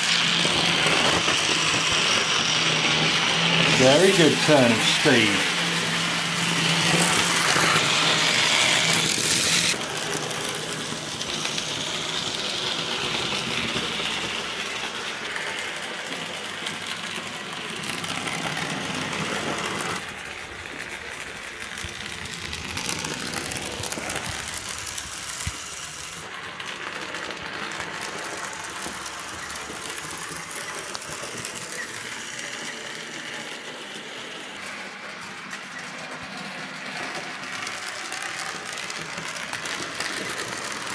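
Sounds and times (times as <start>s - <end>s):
model train motor whirring: 0.0s - 40.9s.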